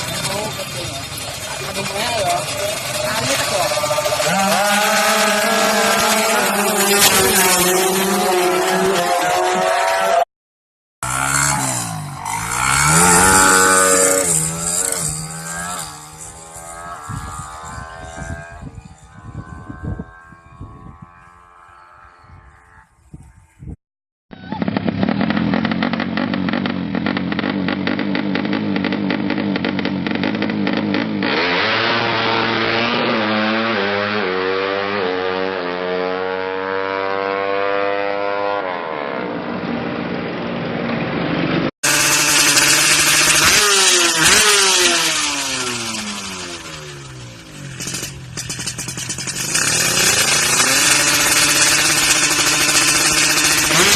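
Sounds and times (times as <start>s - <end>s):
motorcycle engine revving: 0.0s - 10.3s, 11.0s - 23.0s, 24.4s - 53.9s.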